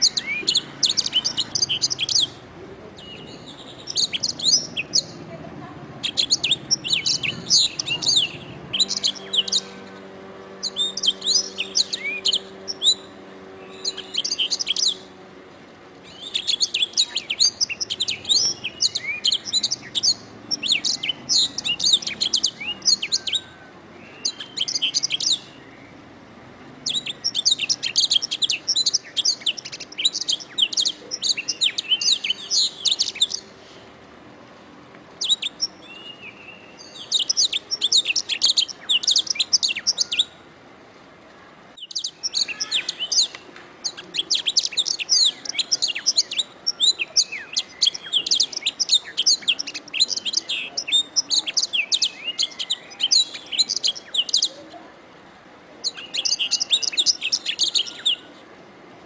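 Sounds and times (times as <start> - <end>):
canary singing trills: 0.0 - 33.8, 35.2 - 40.5, 41.7 - 54.9, 55.8 - 58.4.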